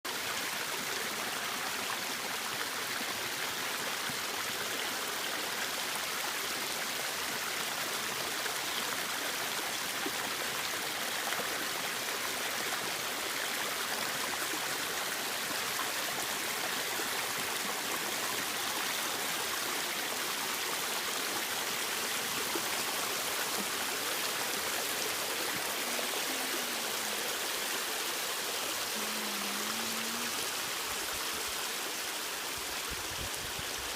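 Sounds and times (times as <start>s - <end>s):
waterfall splashing: 4.2s - 33.9s.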